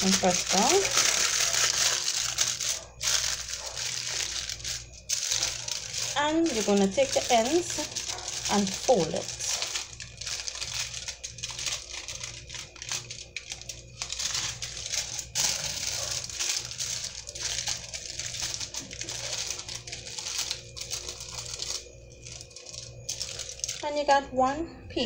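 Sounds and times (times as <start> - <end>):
aluminium foil crinkling: 0.0 - 24.0.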